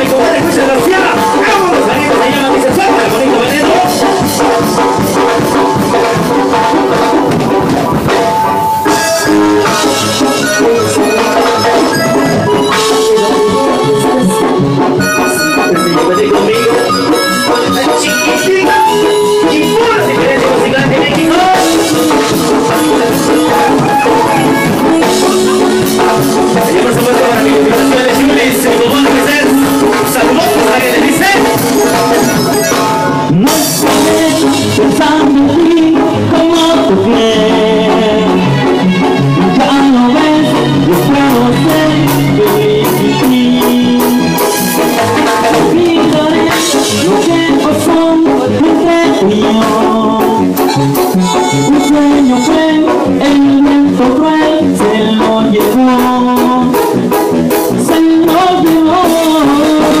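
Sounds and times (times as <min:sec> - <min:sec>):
band music: 0:00.0 - 1:00.0
drum kit: 0:00.0 - 1:00.0
keyboard: 0:00.0 - 1:00.0
percussion: 0:00.0 - 1:00.0.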